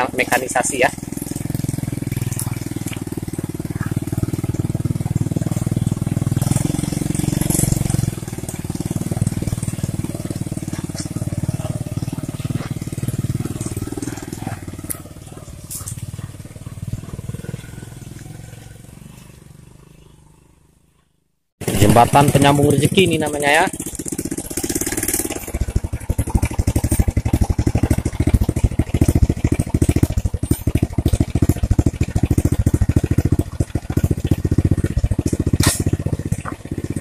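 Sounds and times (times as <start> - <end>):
small motorcycle engine under load: 0.0 - 37.0.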